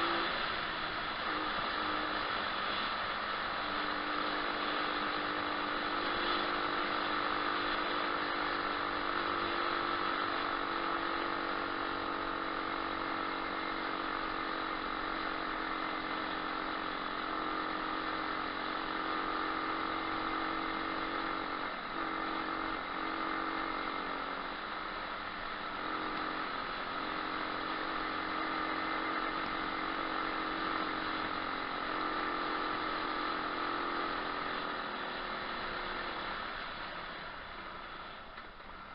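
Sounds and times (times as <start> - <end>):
pit bike engine running: 0.0 - 38.9.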